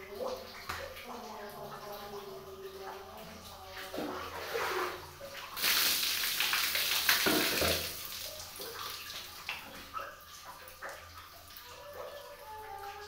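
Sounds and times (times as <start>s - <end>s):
water splashing over a bather: 0.0s - 11.9s
water drips and small splashes: 0.0s - 13.0s.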